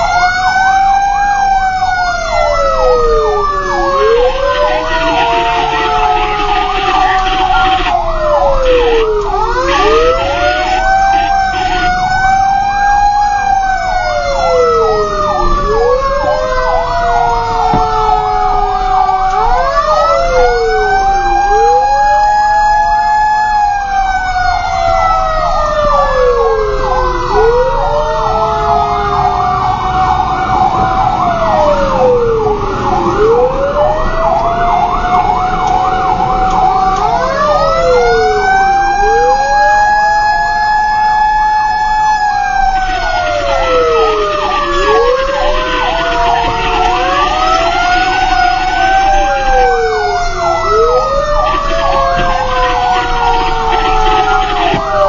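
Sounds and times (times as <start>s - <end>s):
fast siren yelp: 0.0s - 55.0s
fire truck siren wail: 0.0s - 55.0s
second siren wail: 0.0s - 55.0s.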